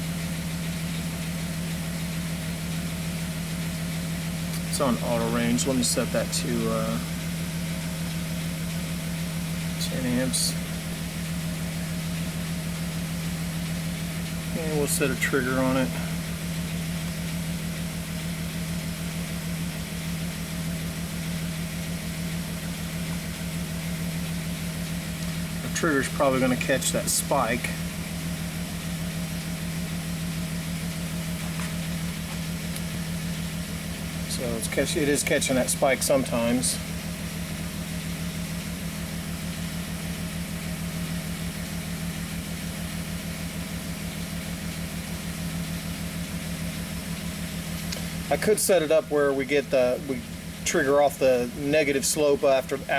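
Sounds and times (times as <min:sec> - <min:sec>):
engine idling with a misfire: 0:00.0 - 0:52.9.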